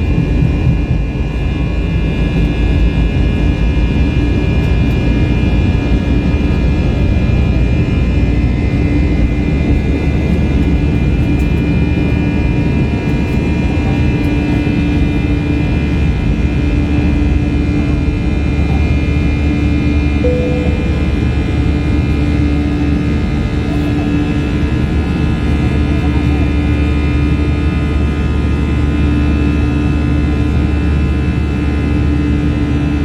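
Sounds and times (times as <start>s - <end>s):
jet engines heard from cabin: 0.0s - 33.0s.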